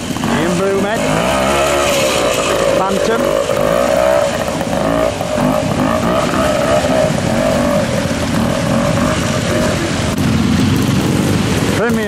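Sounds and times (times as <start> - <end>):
motorcycle engine revving: 0.0 - 12.0
stream rushing and splashing: 0.0 - 12.0.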